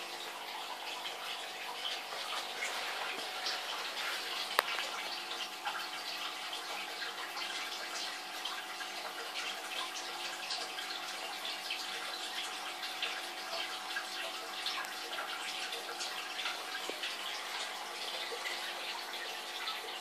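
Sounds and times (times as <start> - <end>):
aquarium air bubbles fizzing: 0.0 - 20.0
faint steady hum: 0.0 - 20.0.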